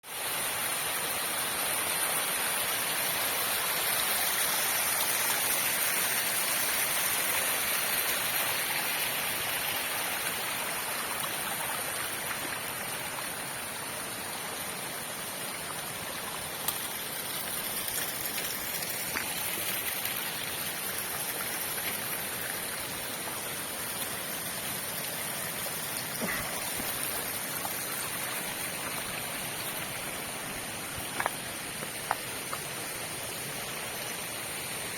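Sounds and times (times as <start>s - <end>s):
waterfall pouring and splashing: 0.0s - 34.9s.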